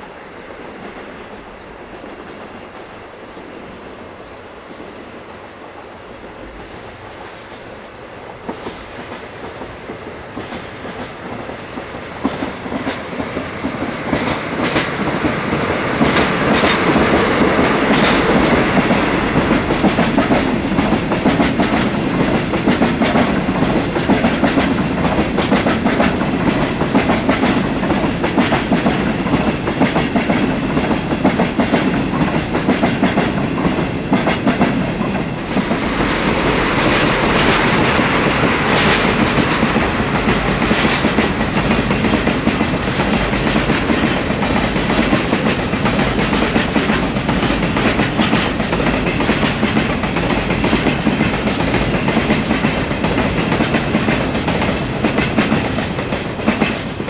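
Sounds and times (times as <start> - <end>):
diesel locomotives: 0.0 - 57.0
train wheels clacking: 6.2 - 57.0.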